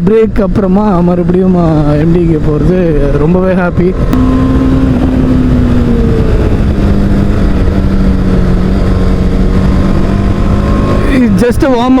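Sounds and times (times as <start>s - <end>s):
low rush of riding noise: 0.0s - 12.0s
motorcycle engine cruising: 0.0s - 12.0s.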